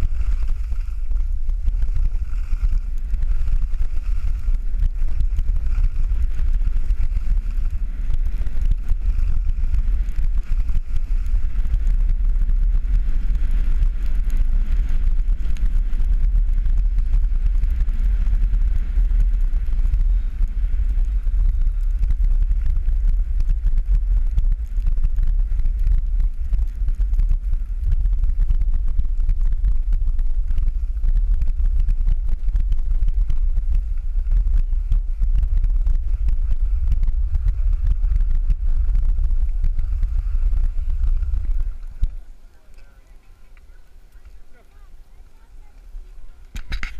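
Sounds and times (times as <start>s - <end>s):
skis hissing over snow: 0.0s - 28.6s, 30.4s - 46.9s
wind buffeting microphone: 0.0s - 46.9s.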